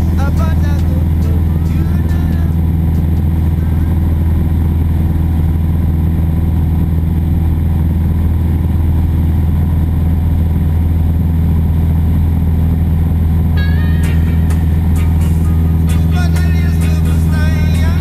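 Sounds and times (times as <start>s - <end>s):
light aircraft engine droning: 0.0s - 18.0s.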